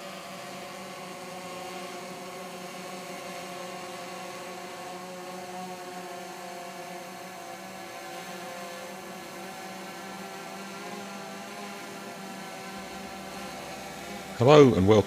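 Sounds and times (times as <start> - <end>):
motor hum: 0.0 - 15.0.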